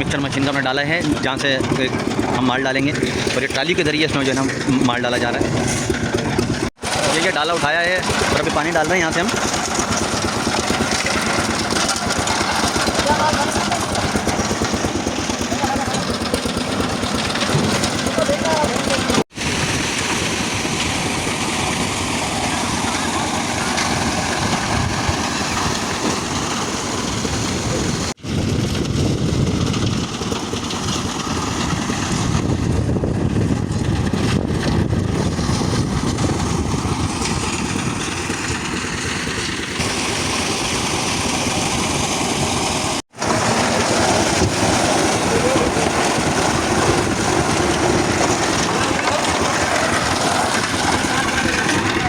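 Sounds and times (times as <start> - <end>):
concrete mixer running: 0.0 - 52.0.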